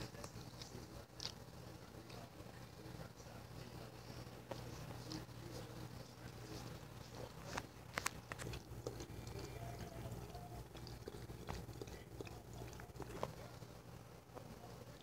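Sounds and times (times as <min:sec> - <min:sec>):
dog licking: 0:00.0 - 0:13.8.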